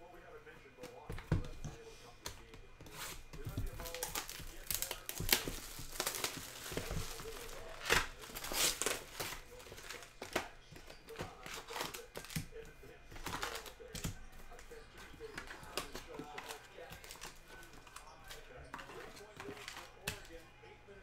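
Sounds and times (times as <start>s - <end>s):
foil packs crinkling and rustling: 0.7s - 20.4s.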